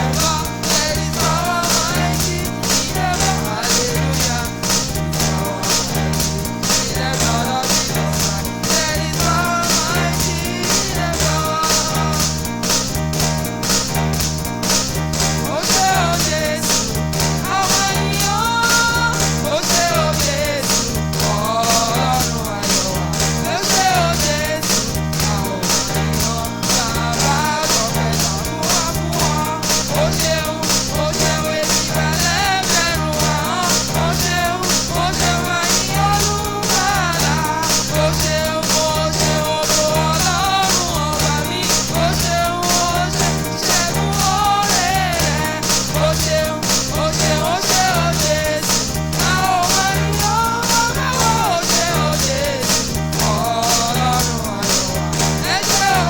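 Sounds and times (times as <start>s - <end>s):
bass line: 0.0s - 56.0s
drum beat: 0.0s - 56.0s
upbeat praise band music: 0.0s - 56.0s.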